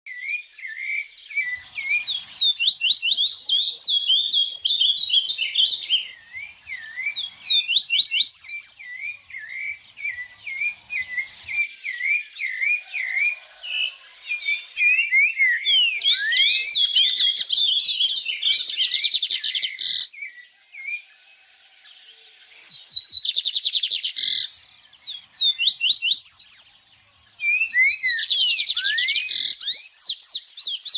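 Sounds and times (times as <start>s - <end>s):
songbird chirping and trilling: 0.1s - 30.9s.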